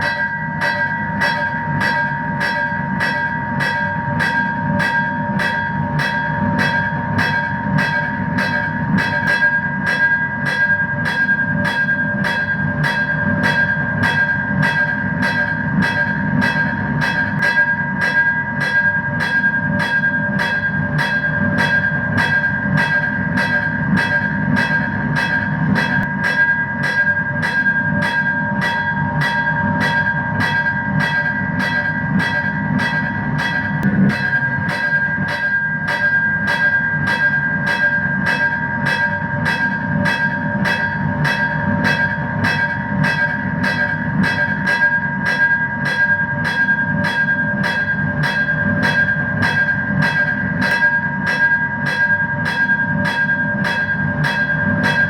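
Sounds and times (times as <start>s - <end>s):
crossing signal bell ringing: 0.0s - 55.0s.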